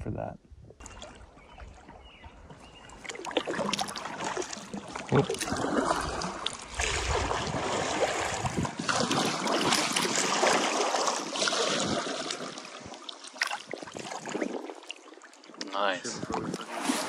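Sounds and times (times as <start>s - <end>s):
paddle splashing water: 0.8s - 17.0s.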